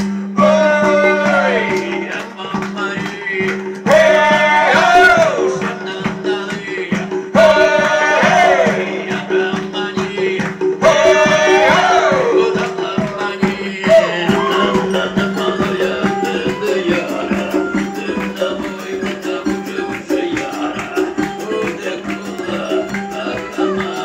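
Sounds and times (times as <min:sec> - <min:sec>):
percussion rhythm: 0:00.0 - 0:24.0
person singing: 0:00.0 - 0:24.0.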